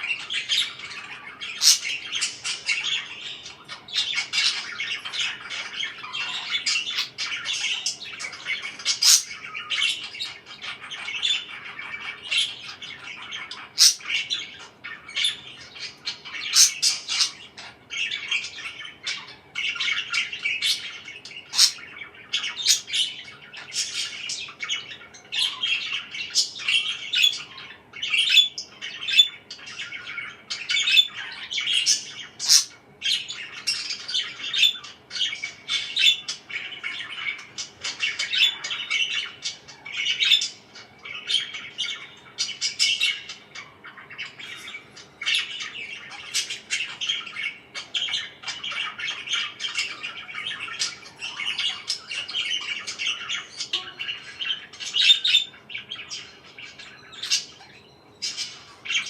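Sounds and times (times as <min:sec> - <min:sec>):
parakeets chirping: 0:00.0 - 0:59.0.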